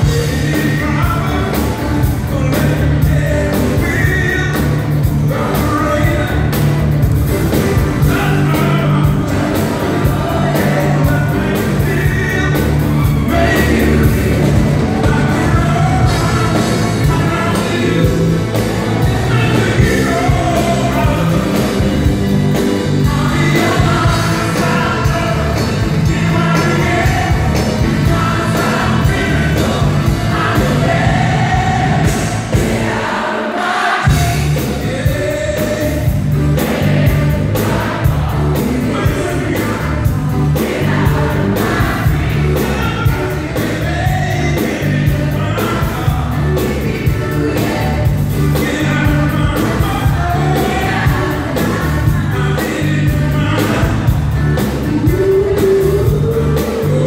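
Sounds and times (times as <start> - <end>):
man singing: 0.0 - 6.9, 7.5 - 33.0, 34.0 - 57.0
pop band playing: 0.0 - 57.0.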